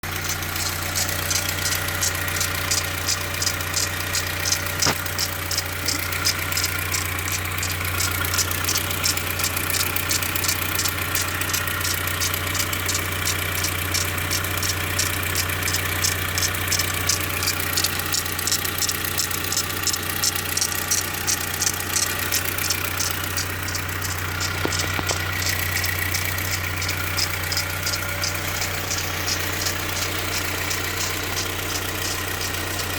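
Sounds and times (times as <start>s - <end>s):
car engine idling: 0.0s - 32.9s
fast regular engine ticking: 0.0s - 32.9s.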